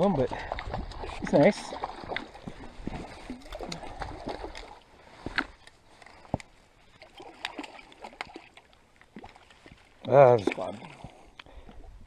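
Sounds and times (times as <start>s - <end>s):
water lapping against rocks: 0.0s - 12.0s.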